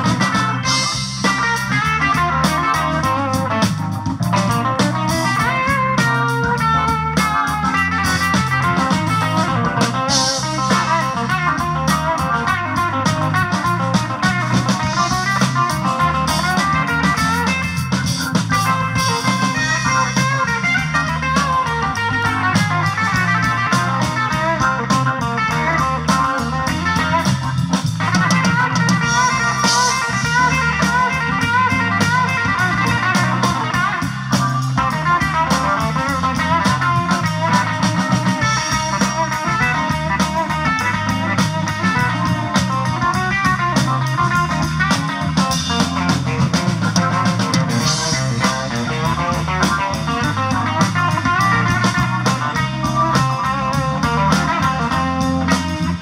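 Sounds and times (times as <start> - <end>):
drum kit: 0.0 - 56.0
electric guitar: 0.0 - 56.0
organ: 0.0 - 56.0.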